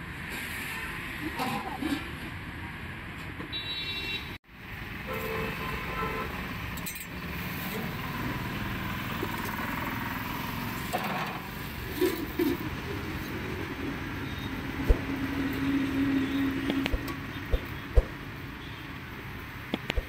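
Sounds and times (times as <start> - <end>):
passing traffic: 0.0 - 3.6, 4.2 - 20.0.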